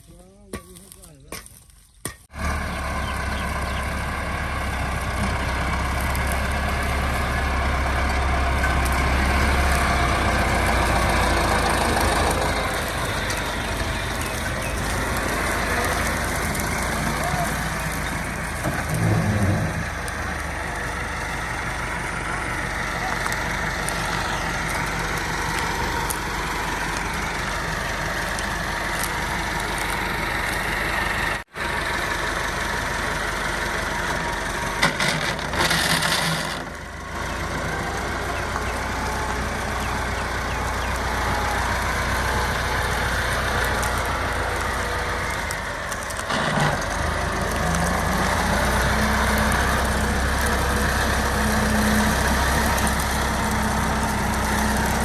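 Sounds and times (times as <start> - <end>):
tractor engine driving thresher: 0.0 - 55.0.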